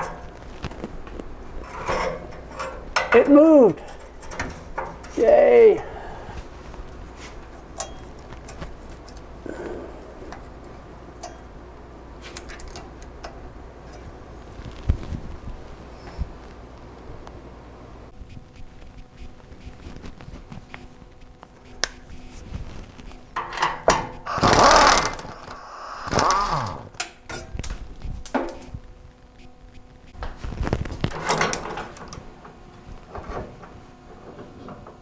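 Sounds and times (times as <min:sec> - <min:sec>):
faint high whine: 0:00.0 - 0:30.9.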